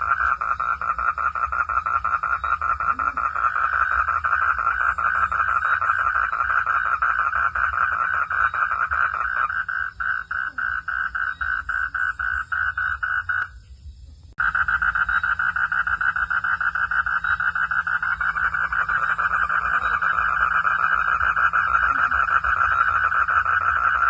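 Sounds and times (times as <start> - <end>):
frogs calling: 0.0 - 24.0.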